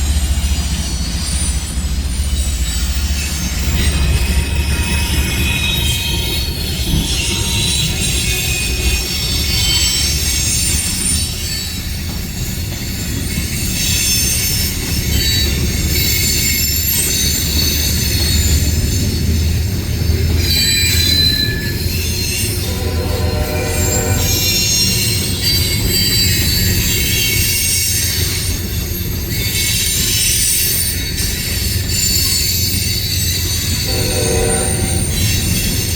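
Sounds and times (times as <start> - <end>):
train cars rumbling: 0.0 - 35.9
wheels squealing on rails: 0.0 - 35.9.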